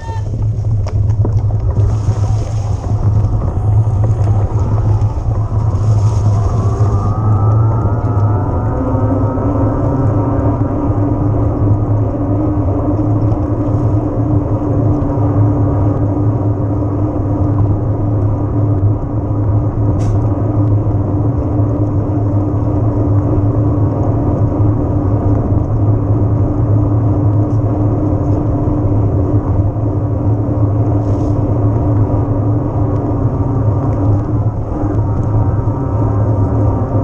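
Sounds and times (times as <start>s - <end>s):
constant low hum: 0.0s - 37.0s
rush and rumble of riding bike: 0.0s - 37.0s.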